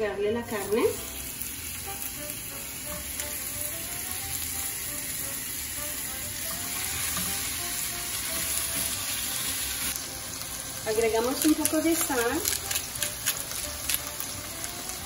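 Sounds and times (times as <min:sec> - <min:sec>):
meat sizzling in oil: 0:00.3 - 0:15.0.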